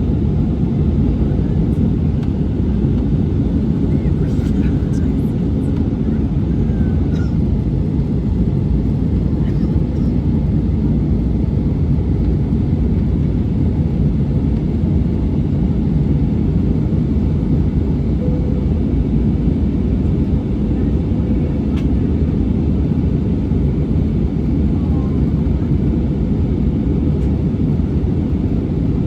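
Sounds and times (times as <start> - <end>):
airliner cabin roar: 0.0 - 29.0.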